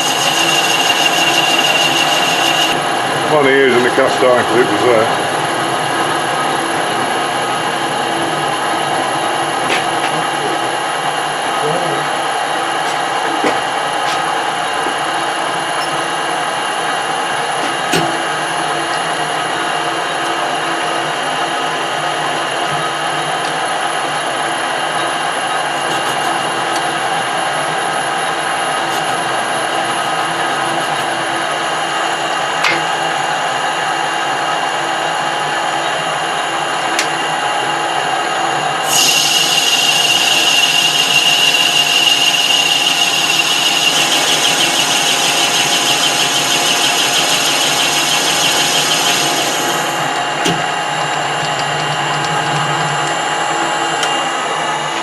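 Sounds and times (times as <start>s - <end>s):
high-pitched whine: 0.0s - 13.5s, 22.5s - 55.0s
metal lathe running: 0.0s - 55.0s.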